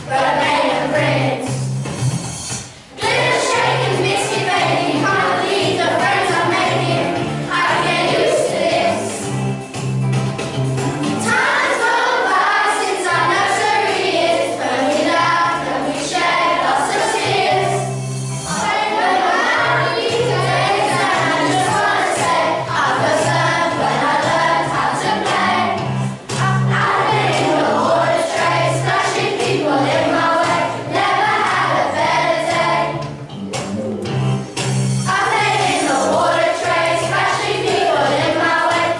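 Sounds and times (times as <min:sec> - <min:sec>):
children singing in unison: 0:00.0 - 0:01.5, 0:02.9 - 0:09.2, 0:11.2 - 0:17.9, 0:18.5 - 0:33.0, 0:35.1 - 0:38.9
instrumental backing with bass: 0:00.0 - 0:38.9.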